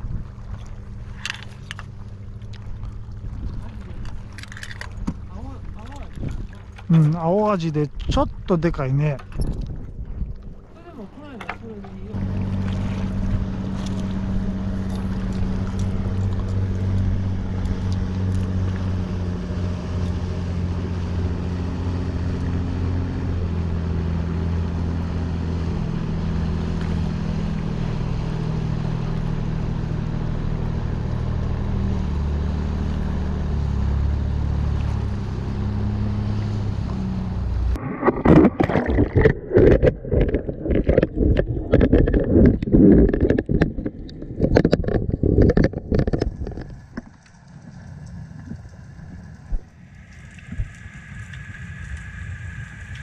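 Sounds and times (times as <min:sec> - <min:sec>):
boat engine droning: 0:00.0 - 0:53.0
water sloshing and bubbling: 0:00.0 - 0:53.0.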